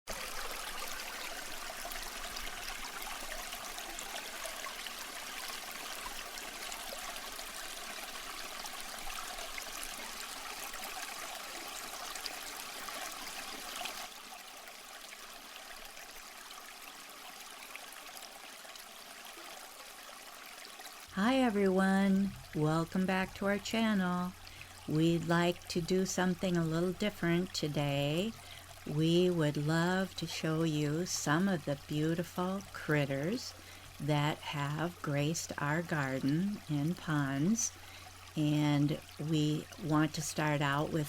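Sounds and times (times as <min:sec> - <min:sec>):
pond waterfall running: 0:00.1 - 0:41.0.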